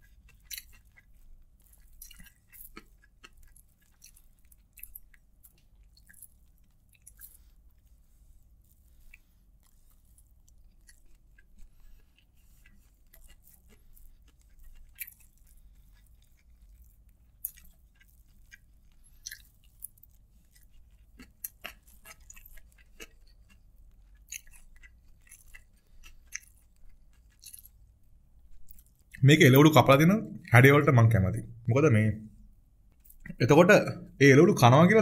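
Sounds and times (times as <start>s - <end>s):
wet chewing and mouth smacks: 0.0s - 29.2s, 32.4s - 33.4s.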